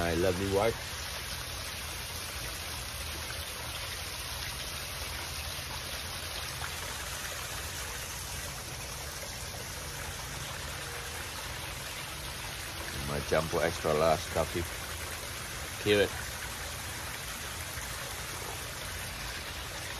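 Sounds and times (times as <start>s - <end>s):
pond waterfall running: 0.0s - 19.9s.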